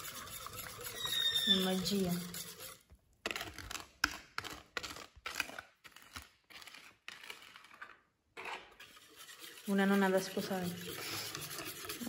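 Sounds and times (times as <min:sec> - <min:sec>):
whisk scraping container: 0:00.0 - 0:12.0.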